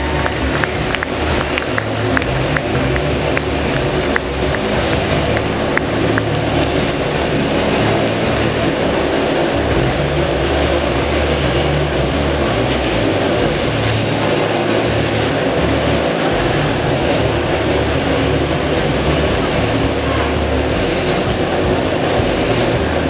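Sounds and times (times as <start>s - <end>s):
motorcycle engines running hard: 0.0s - 23.0s.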